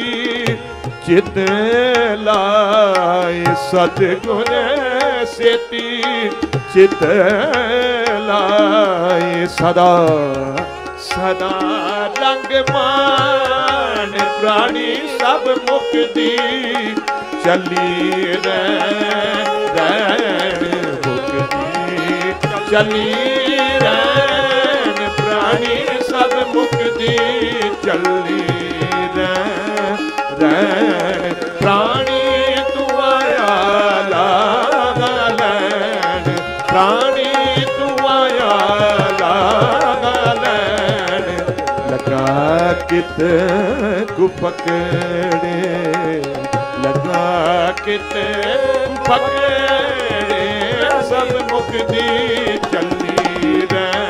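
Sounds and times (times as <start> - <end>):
tabla: 0.0 - 54.0.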